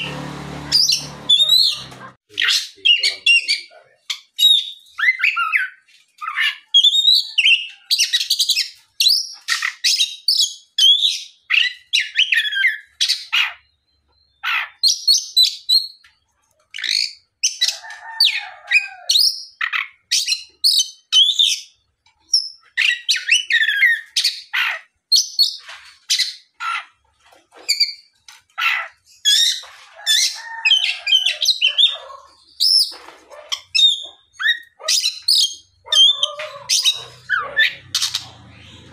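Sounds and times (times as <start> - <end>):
magpie-robin singing: 0.7 - 16.0, 19.1 - 26.9, 27.7 - 38.9.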